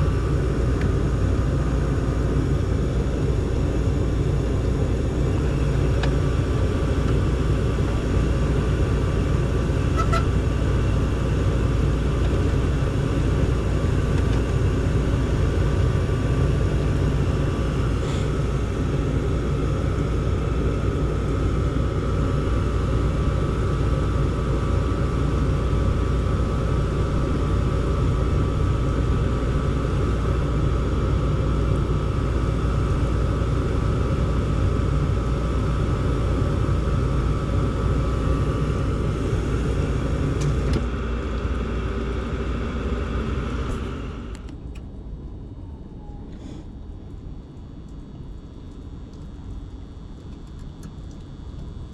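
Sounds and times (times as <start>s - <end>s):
faint high whine: 0.0s - 49.9s
furnace low rumble: 0.0s - 51.9s.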